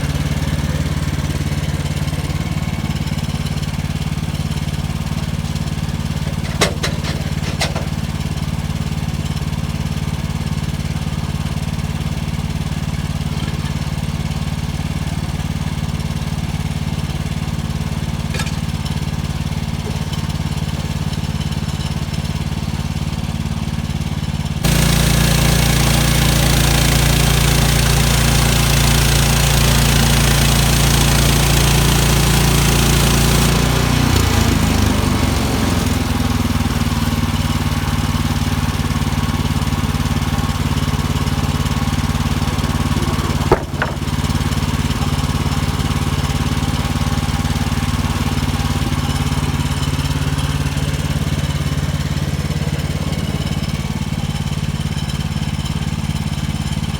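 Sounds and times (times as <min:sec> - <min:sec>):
gas engine running: 0:00.0 - 0:56.9.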